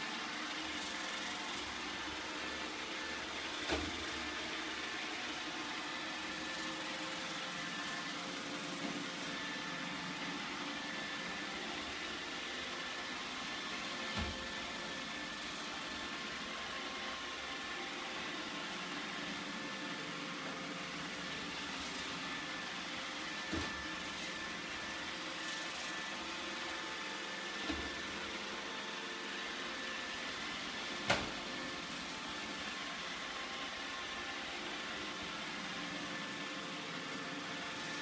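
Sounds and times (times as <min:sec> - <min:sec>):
robot vacuum whirring: 0:00.0 - 0:38.0.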